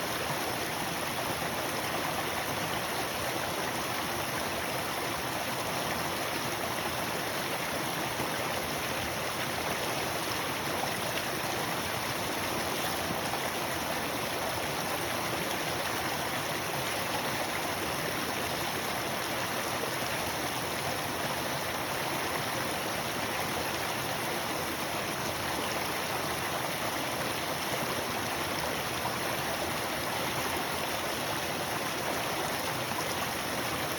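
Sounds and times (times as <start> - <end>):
flowing water rushing: 0.0 - 33.9.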